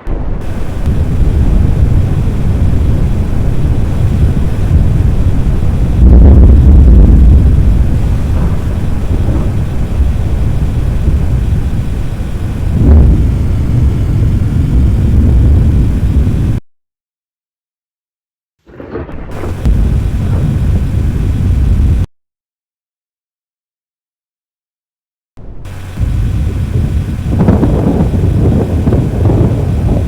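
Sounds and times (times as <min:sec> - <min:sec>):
deep thunder rumbling: 0:00.0 - 0:16.6, 0:18.7 - 0:22.1, 0:25.7 - 0:30.0.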